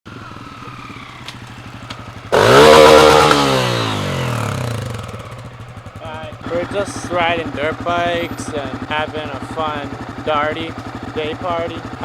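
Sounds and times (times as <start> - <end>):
dirt bike engine throttling: 0.1 - 12.0.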